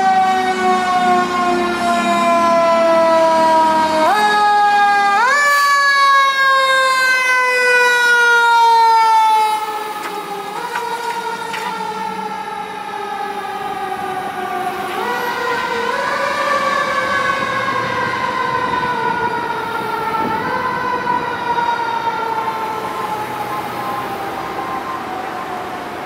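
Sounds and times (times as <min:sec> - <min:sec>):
mechanical fire engine siren: 0:00.0 - 0:26.0.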